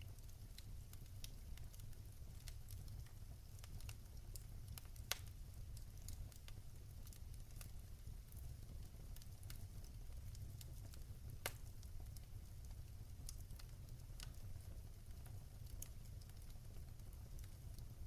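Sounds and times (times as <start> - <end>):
fire crackling and popping: 0.0 - 18.0
low steady rumble of fire: 0.0 - 18.0.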